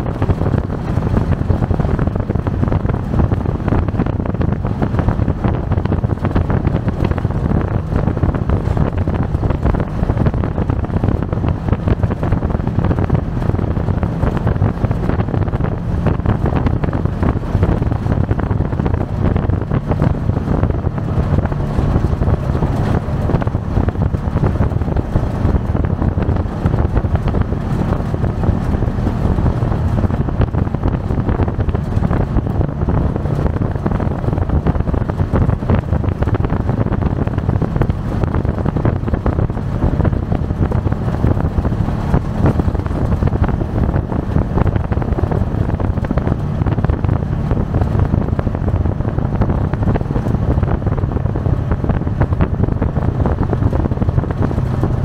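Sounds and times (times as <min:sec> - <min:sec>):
off-road vehicle engine running: 0:00.0 - 0:55.0
wind buffeting microphone: 0:00.0 - 0:55.0.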